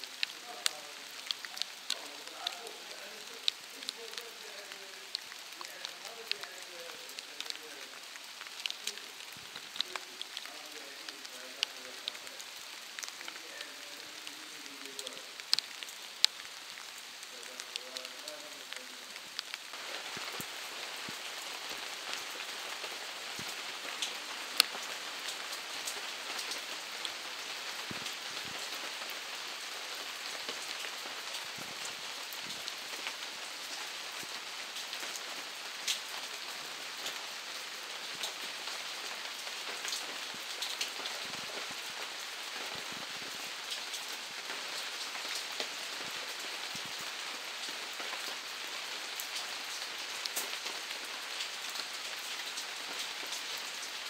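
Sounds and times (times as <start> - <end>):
raindrops ticking: 0.0 - 54.0
steady rain falling: 0.0 - 54.0.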